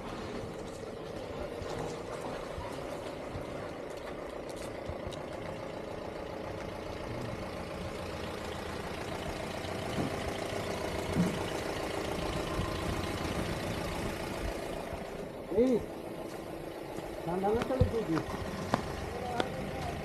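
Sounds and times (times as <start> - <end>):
pickup truck engine driving: 0.0 - 20.0.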